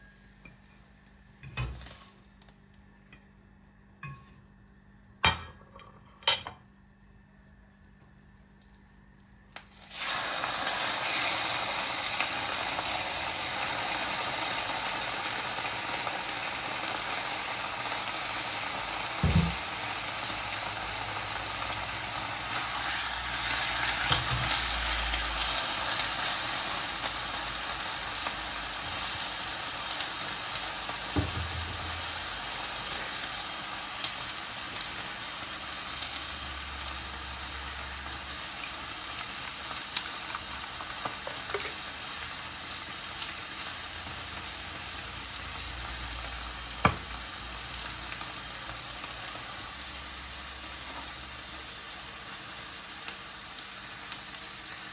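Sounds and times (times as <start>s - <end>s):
food sizzling in frying pan: 0.0s - 2.8s, 9.6s - 54.9s.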